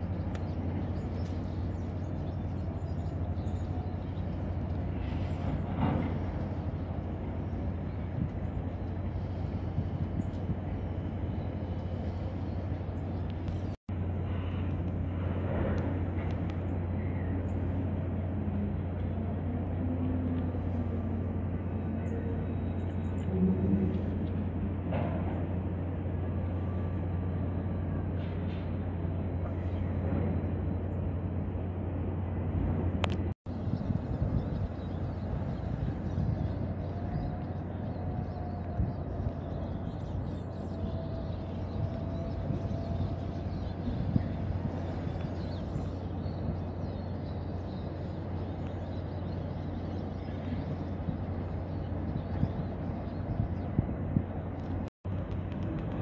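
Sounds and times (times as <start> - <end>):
low mechanical hum: 0.0 - 56.0
outdoor background noise: 0.0 - 56.0
rumbling background noise: 0.0 - 56.0.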